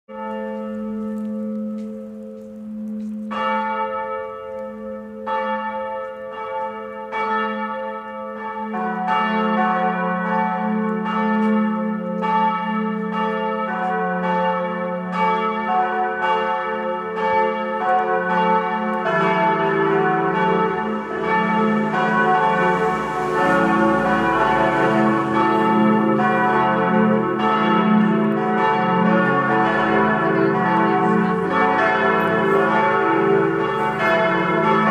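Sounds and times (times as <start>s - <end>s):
swinging church bells ringing: 0.1s - 34.9s.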